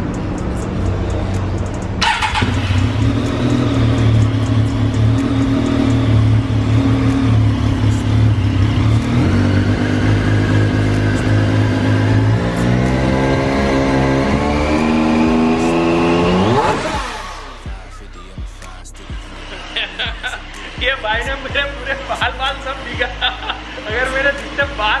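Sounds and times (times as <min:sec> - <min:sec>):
motorcycle engine revving: 0:01.9 - 0:18.0, 0:19.0 - 0:25.0.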